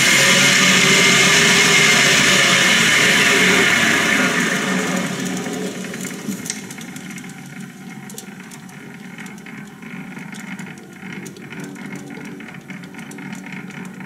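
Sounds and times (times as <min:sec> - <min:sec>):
metal lathe motor running: 0:00.0 - 0:14.0.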